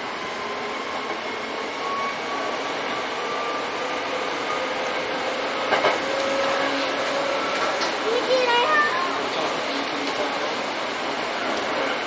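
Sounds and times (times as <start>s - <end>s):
train wheels rolling on rail: 0.0s - 12.0s.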